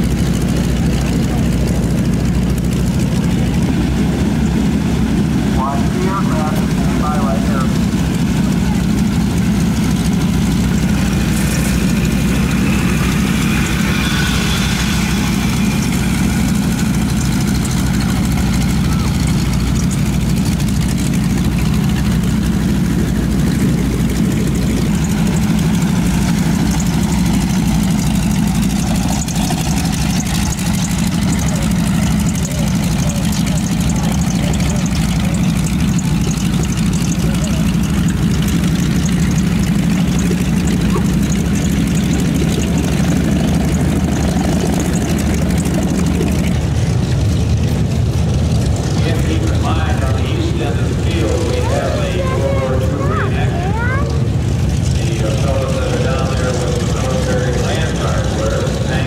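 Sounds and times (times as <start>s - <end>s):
radial plane engines idling: 0.0s - 59.0s.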